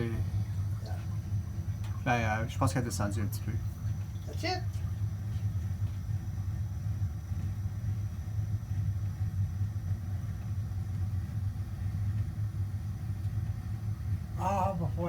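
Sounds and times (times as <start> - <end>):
furnace humming: 0.0 - 15.0.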